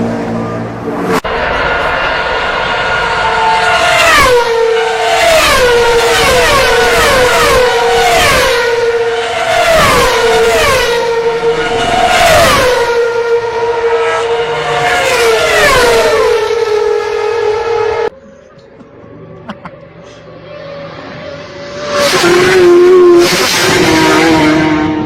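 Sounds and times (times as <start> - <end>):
vehicles passing at speed: 0.0 - 25.0.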